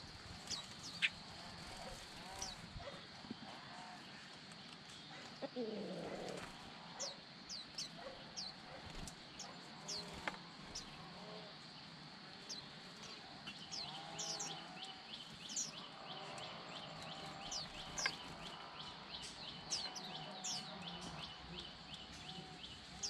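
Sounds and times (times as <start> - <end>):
small songbirds chirping: 0.0 - 23.0.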